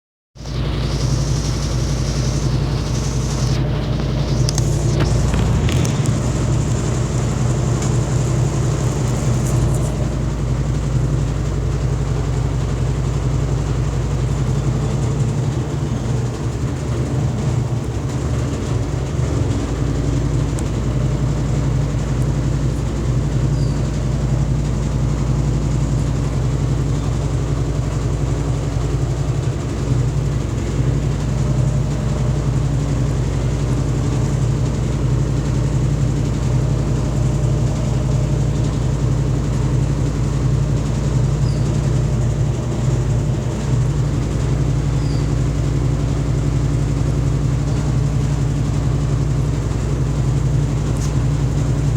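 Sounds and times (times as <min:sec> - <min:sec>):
washing machine rumbling: 0:00.4 - 0:51.9.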